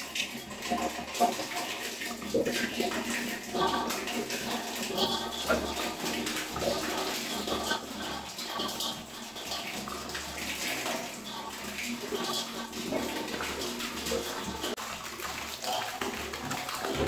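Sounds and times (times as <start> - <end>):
water pouring and splashing: 0.0 - 17.0.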